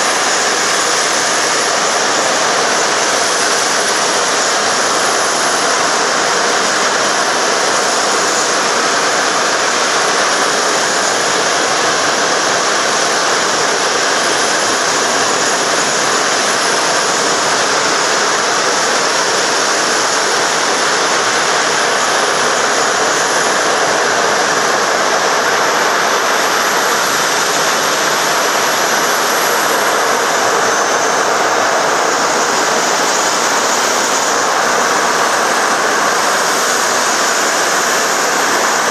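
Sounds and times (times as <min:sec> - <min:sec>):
high turbine whine: 0:00.0 - 0:38.9
jet turbine rushing: 0:00.0 - 0:38.9.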